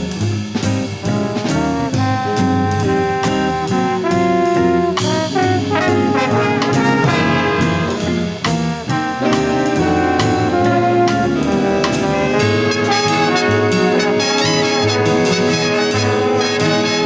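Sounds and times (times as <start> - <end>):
brass band playing jazz: 0.0 - 17.0.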